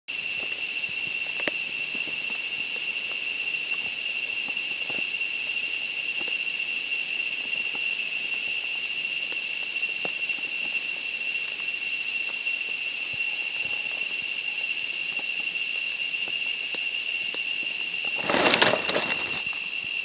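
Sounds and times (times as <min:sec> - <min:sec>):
insects droning: 0:00.1 - 0:20.0.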